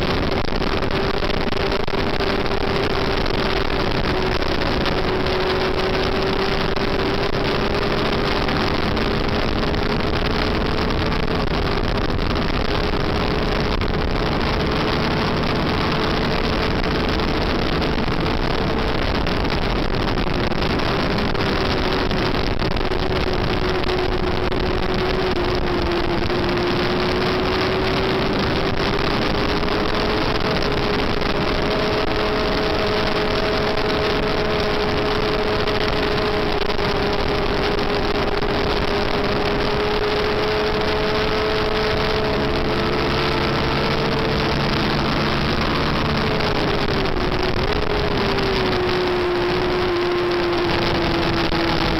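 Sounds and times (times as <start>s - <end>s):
motorcycle engine at high revs: 0.0s - 51.9s
wind rush: 0.0s - 51.9s.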